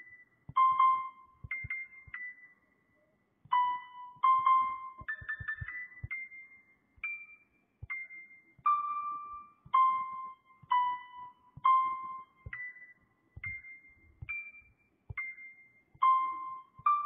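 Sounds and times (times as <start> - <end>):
slow gentle piano melody: 0.0 - 17.0.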